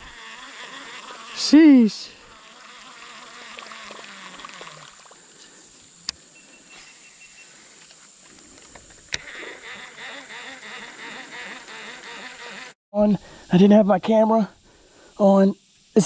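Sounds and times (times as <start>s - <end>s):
insects buzzing and chirring: 0.0s - 16.0s.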